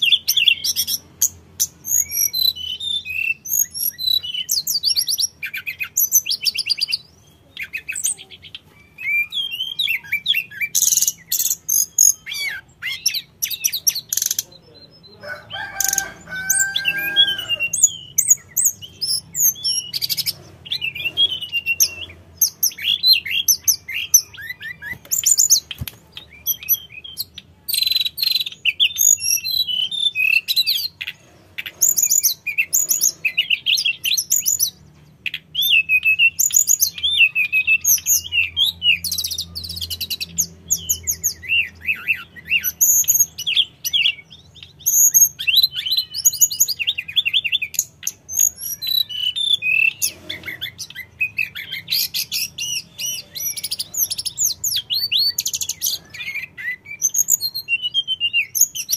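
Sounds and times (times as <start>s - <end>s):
bird singing: 0.0s - 58.9s.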